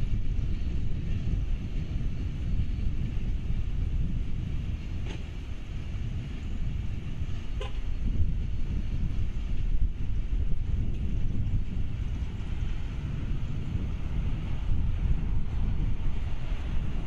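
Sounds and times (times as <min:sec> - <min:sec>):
distant freight train rumbling: 0:00.0 - 0:17.0
wind noise on microphone: 0:00.0 - 0:17.0.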